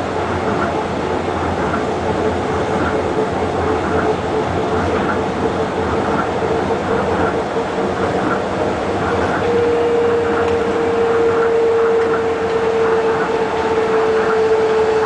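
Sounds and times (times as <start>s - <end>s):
train rumbling: 0.0s - 15.0s
motor whine: 1.4s - 15.0s.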